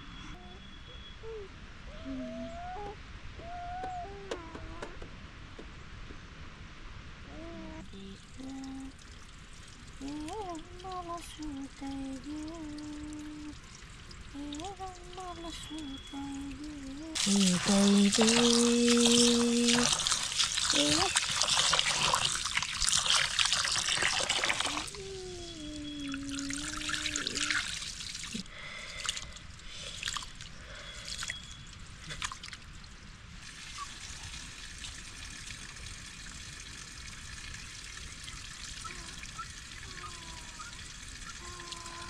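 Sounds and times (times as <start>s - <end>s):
faint steady hiss: 0.0s - 42.0s
running water: 7.8s - 42.0s.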